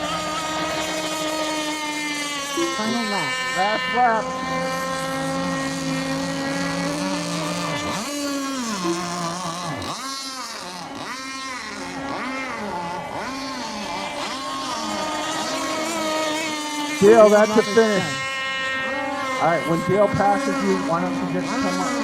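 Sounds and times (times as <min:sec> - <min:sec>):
racing boat engines whining: 0:00.0 - 0:22.0.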